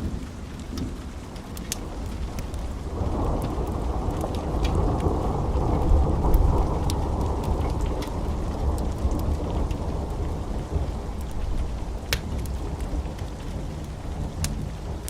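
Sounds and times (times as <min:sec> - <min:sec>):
fire crackling and popping: 0:00.0 - 0:15.0
rumble of flames: 0:00.0 - 0:15.0.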